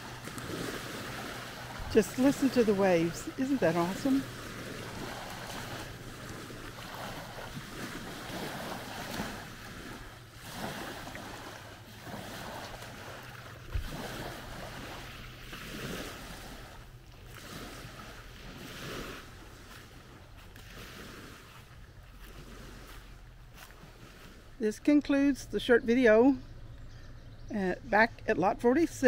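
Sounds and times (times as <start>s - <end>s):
waves lapping on shore: 0.0s - 26.4s.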